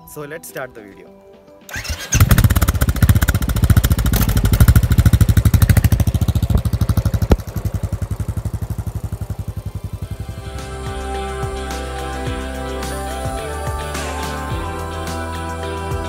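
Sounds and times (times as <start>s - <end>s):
motorcycle engine starting and running: 1.7s - 16.0s.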